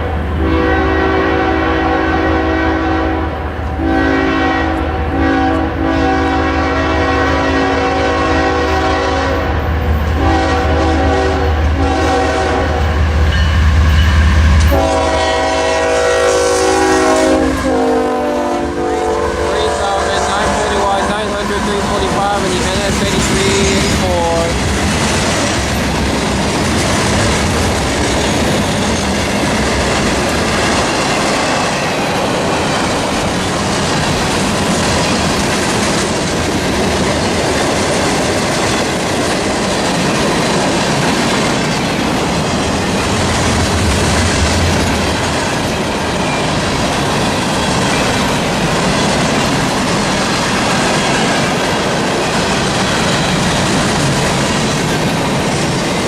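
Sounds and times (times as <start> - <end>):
freight train wheels rattling on track: 0.0 - 56.0.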